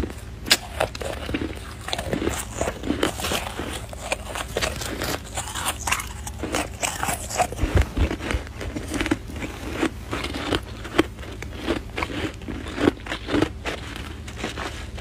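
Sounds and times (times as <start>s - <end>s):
snow being chewed crunching: 0.5s - 15.0s.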